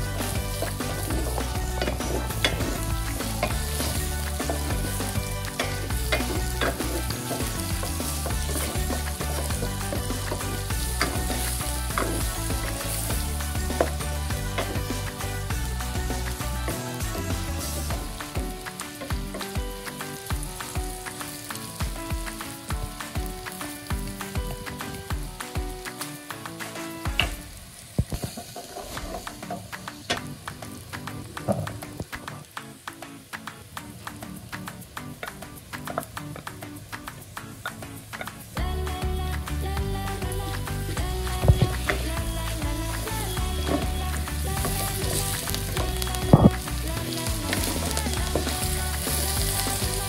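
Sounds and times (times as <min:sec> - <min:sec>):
background music with steady beat: 0:00.0 - 0:28.4, 0:29.0 - 0:50.0
meat sizzling in a pot: 0:00.0 - 0:50.0.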